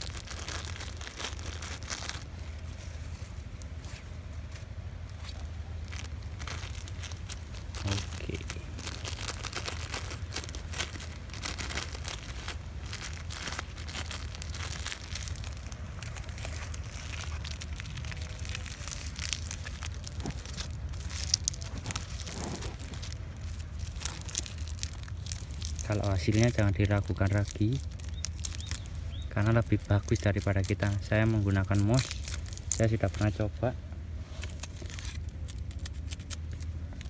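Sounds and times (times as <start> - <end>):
plastic bag crinkling: 0.0 - 33.6, 34.3 - 37.0
steady low hum: 0.0 - 37.0.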